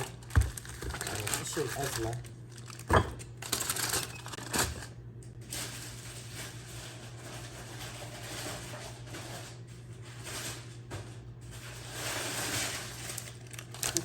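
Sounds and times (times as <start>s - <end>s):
plastic packaging rustling: 0.0s - 14.0s.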